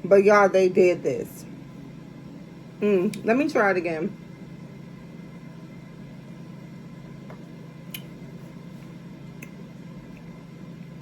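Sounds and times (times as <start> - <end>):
air fryer humming: 0.0 - 11.0.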